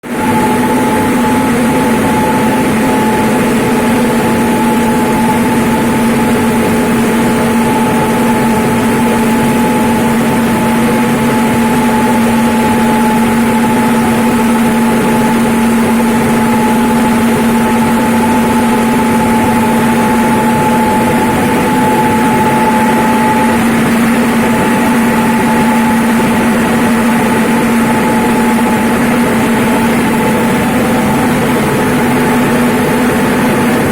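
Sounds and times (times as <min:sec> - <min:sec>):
milling machine humming: 0:00.0 - 0:33.9.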